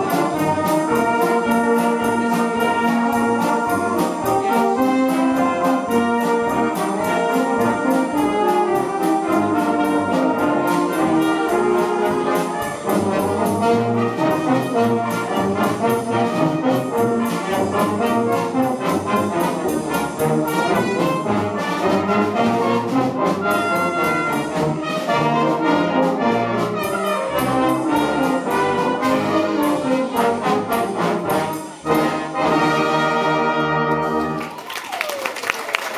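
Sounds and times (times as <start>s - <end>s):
drum beat: 0.0s - 32.5s
brass band playing: 0.0s - 35.9s.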